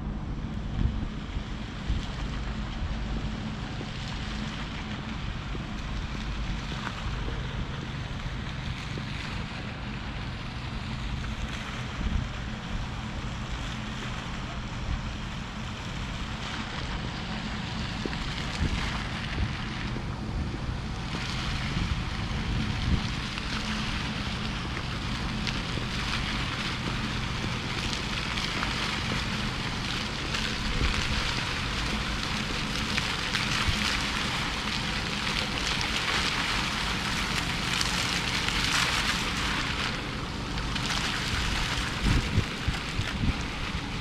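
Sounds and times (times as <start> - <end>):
city street rushing hiss: 0.0 - 44.0
low hum: 0.0 - 44.0.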